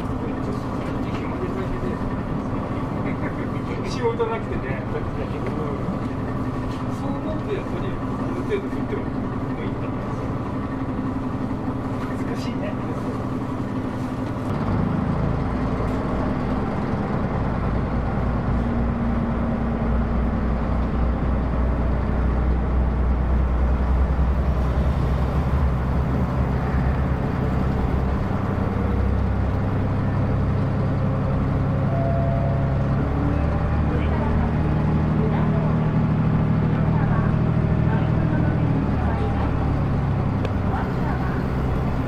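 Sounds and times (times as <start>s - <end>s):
railcar engine drone: 0.0s - 42.0s.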